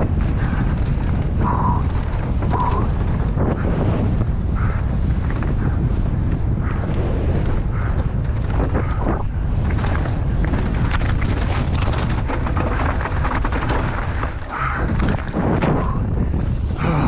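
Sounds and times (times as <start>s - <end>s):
crackling: 0.0s - 17.0s
wind buffeting microphone: 0.0s - 17.0s.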